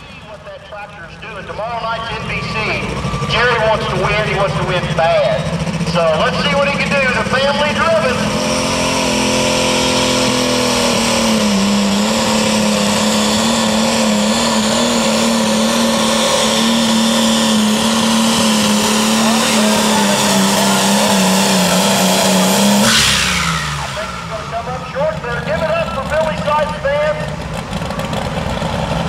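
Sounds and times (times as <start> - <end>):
tractor diesel engine at full throttle: 0.0 - 29.0.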